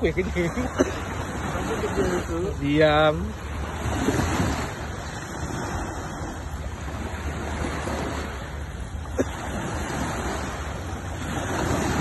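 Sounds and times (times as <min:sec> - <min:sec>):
surf washing onto beach: 0:00.0 - 0:12.0
wind rumble on microphone: 0:01.3 - 0:12.0.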